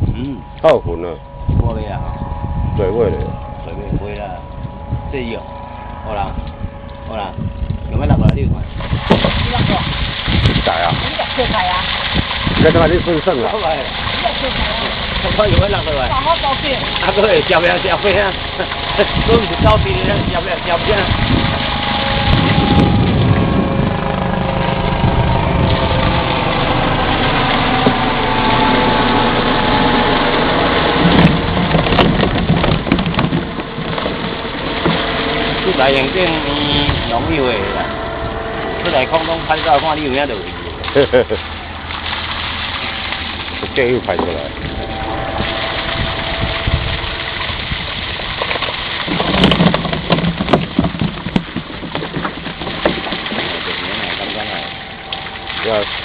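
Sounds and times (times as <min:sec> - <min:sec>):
motor drone: 0:00.0 - 0:56.0
water splashing and churning: 0:00.0 - 0:56.0
sharp splashes or knocks: 0:08.7 - 0:23.8, 0:25.0 - 0:56.0.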